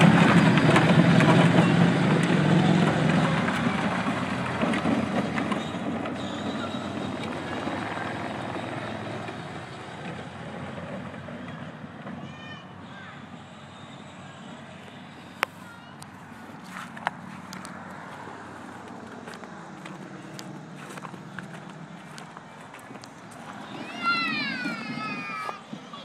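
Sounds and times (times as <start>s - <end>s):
tyres rolling over gravel: 0.0s - 11.3s, 14.9s - 26.0s.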